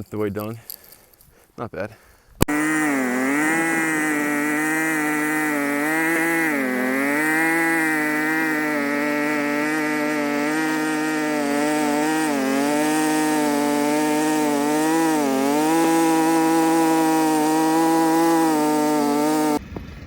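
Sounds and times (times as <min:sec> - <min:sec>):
motor engine running at high speed: 0:02.4 - 0:20.0.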